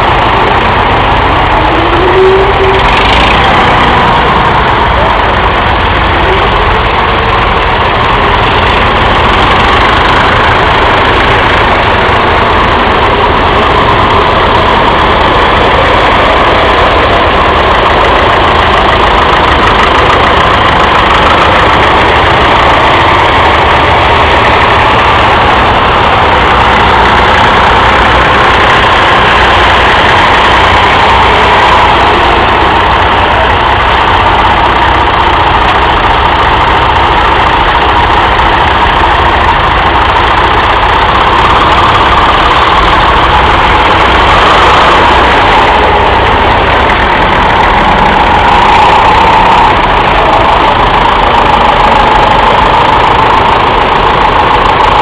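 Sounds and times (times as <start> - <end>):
tractor engines droning: 0.0 - 55.0.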